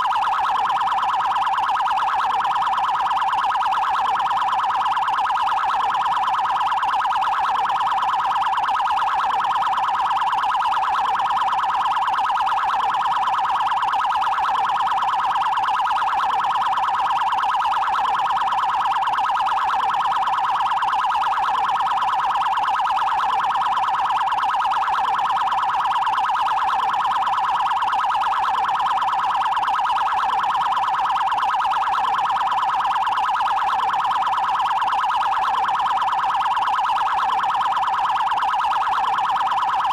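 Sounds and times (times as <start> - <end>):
fast warbling police siren: 0.0 - 39.9.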